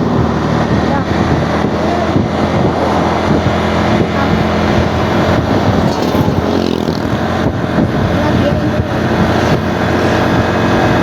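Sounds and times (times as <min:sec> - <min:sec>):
bus engine running: 0:00.0 - 0:11.0
road noise: 0:00.0 - 0:11.0
wind noise: 0:00.0 - 0:11.0.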